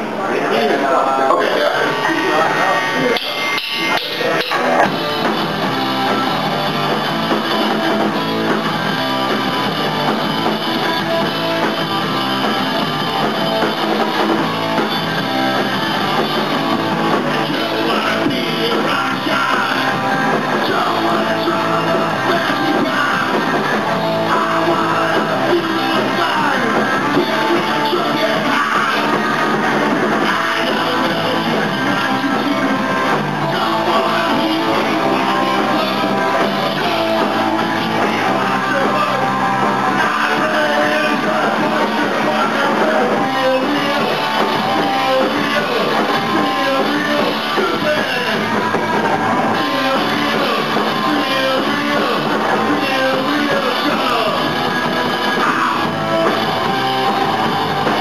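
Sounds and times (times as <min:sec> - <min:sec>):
electric guitar: 0:00.0 - 0:58.0
rock band playing live: 0:00.0 - 0:58.0.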